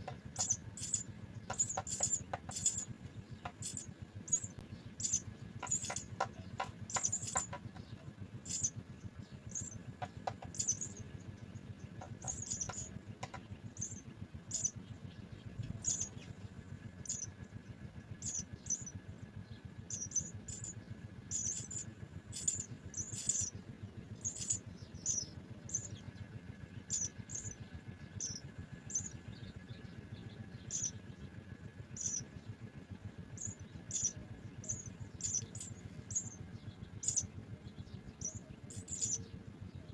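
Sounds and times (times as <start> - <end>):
nestlings cheeping: 0.0 - 39.6.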